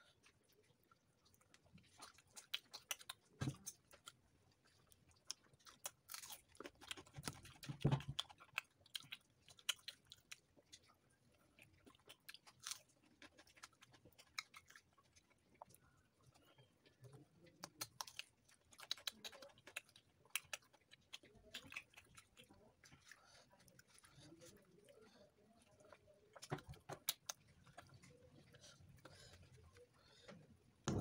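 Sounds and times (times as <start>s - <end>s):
person chewing and crunching: 0.0s - 30.2s.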